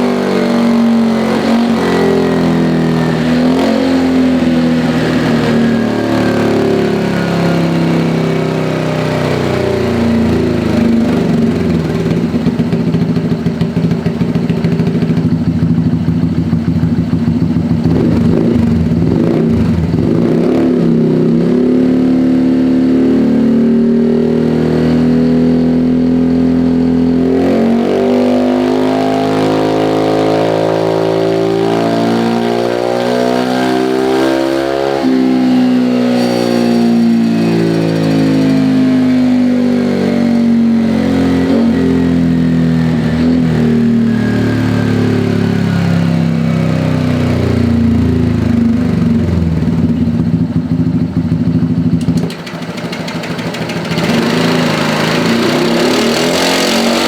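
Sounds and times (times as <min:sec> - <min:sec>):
scooter engine revving: 0:00.0 - 0:57.0.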